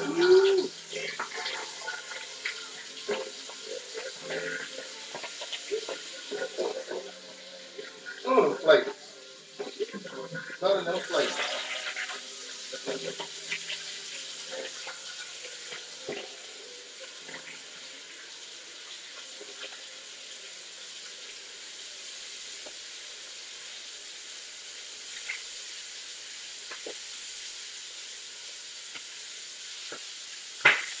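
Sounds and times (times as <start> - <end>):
chicken sizzling in hot oil: 0.0 - 31.0.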